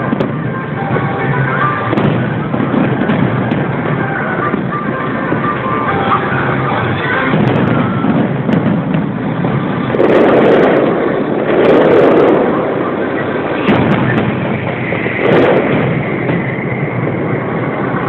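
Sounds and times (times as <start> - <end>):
fireworks booming: 0.0 - 18.0
fireworks crackling rumble: 0.0 - 18.0.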